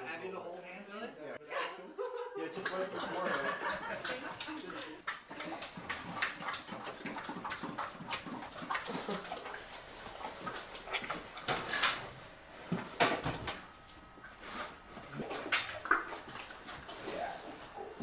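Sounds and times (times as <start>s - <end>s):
bear chewing and slurping: 2.6s - 18.0s.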